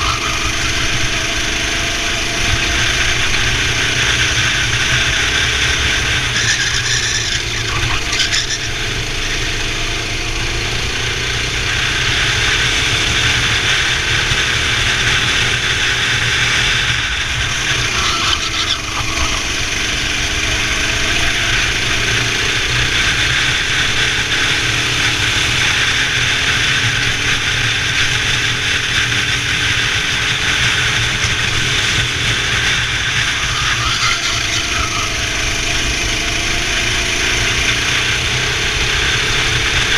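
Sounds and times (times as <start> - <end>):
go-kart engine racing: 0.0 - 39.9
steady noisy rush: 0.0 - 39.9.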